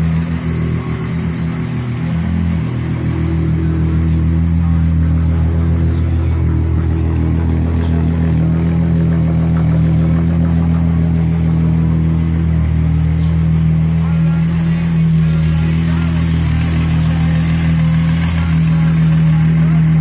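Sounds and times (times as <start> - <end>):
car engine idling with misfire: 0.0 - 20.0.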